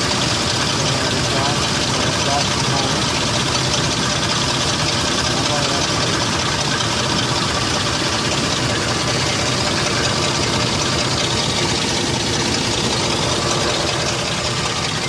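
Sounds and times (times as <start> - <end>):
car engine idling at exhaust: 0.0 - 15.0.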